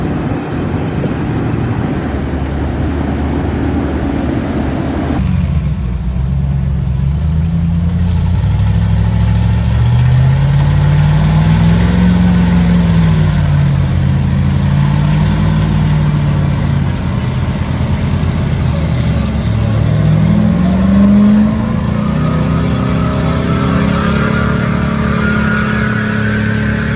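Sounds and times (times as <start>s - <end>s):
broad noisy rush: 0.0s - 26.9s
heavy engine revving: 0.0s - 26.9s.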